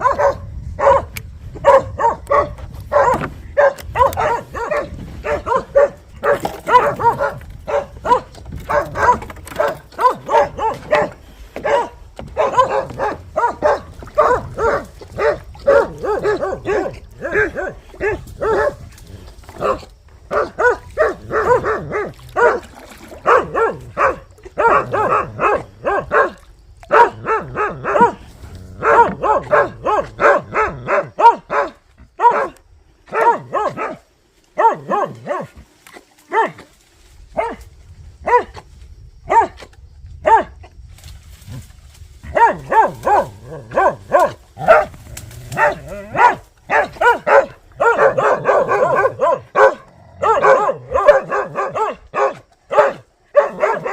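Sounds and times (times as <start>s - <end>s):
dogs barking: 0.0s - 36.7s, 37.4s - 37.6s, 38.2s - 38.6s, 39.3s - 39.6s, 40.2s - 40.6s, 42.2s - 53.9s.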